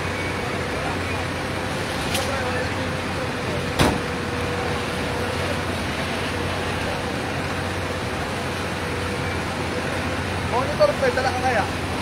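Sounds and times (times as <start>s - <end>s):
fire truck engines rumbling: 0.0s - 12.0s.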